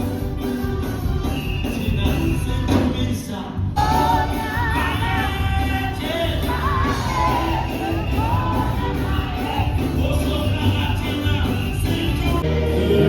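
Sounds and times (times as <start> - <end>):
music with singing voices: 0.0 - 13.0.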